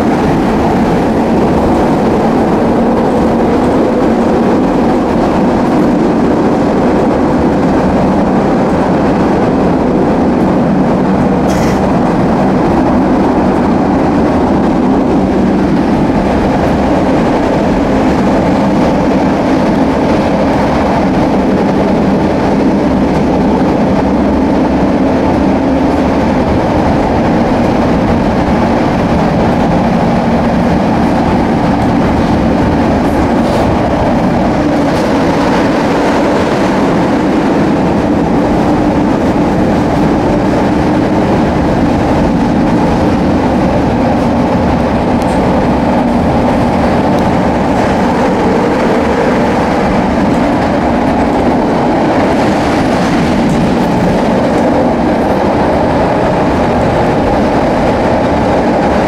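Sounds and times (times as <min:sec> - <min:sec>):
train wheels on rails: 0:00.0 - 0:59.0.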